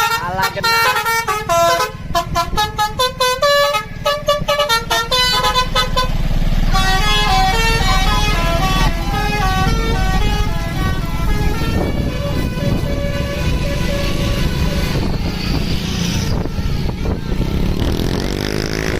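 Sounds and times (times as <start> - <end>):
multi-tone bus horn melody: 0.0 - 18.9.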